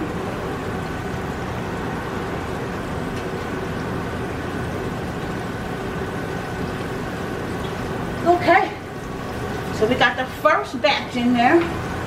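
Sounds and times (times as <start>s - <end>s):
fish deep-frying in hot oil: 0.0s - 12.0s.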